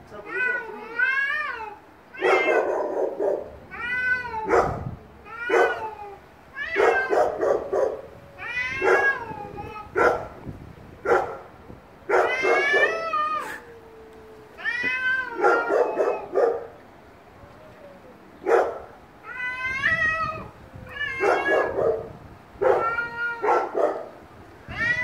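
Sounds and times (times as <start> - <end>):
cats yowling: 0.3 - 11.4, 12.0 - 16.8, 17.4 - 25.0.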